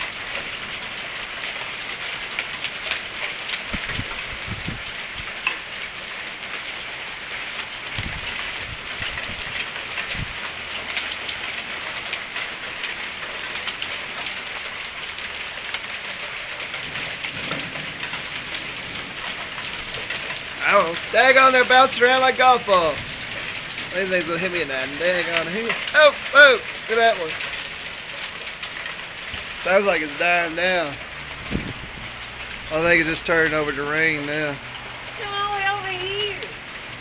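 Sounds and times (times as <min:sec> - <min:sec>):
hailstones striking hard surfaces: 0:00.0 - 0:36.5
rain hissing: 0:00.0 - 0:37.0.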